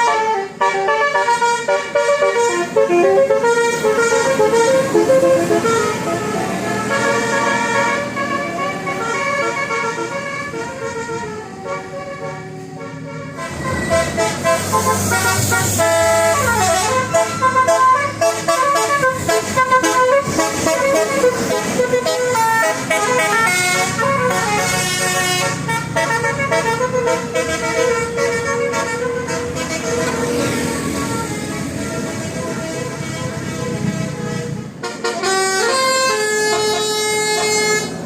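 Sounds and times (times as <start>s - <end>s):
bus multi-tone horn tune: 0.0s - 38.0s.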